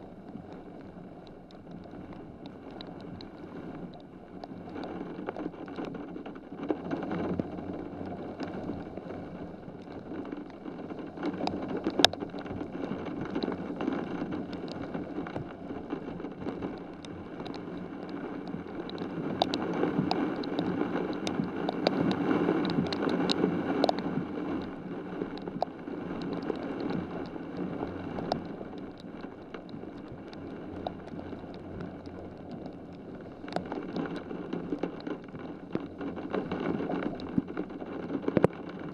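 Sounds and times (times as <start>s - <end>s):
heavy rain pouring: 0.0s - 38.9s
raindrops ticking: 0.0s - 38.9s.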